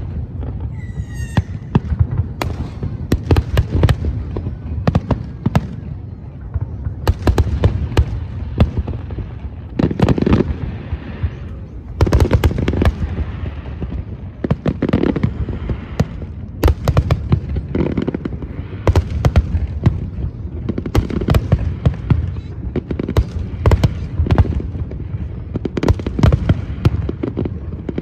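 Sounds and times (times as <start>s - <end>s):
fireworks cracks and bangs: 0.0s - 28.0s.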